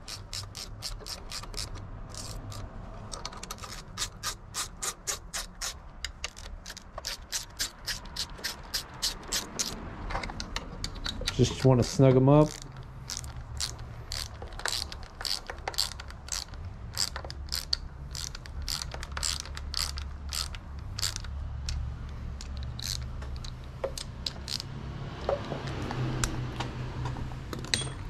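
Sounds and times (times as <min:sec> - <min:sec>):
hand ratchet clicking: 0:00.0 - 0:24.7.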